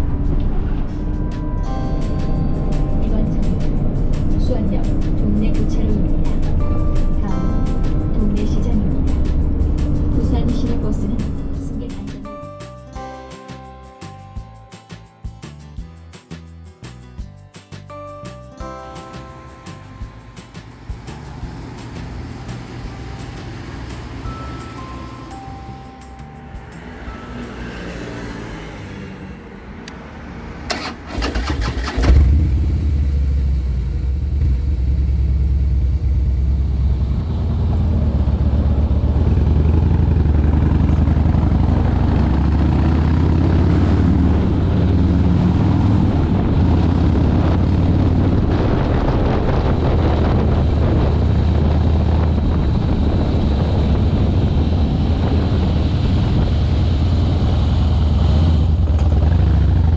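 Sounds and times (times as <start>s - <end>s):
motorcycle engine rumbling: 0.0s - 13.1s, 19.3s - 27.5s, 28.1s - 59.9s.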